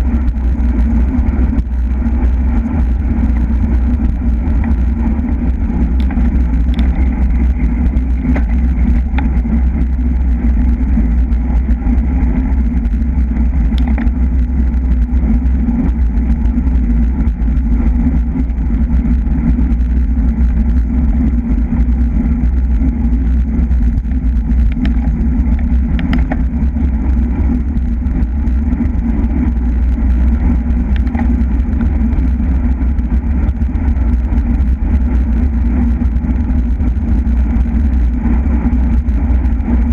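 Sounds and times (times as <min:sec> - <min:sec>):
road and tyre noise: 0:00.0 - 0:39.9
wind rush on microphone: 0:00.0 - 0:39.9.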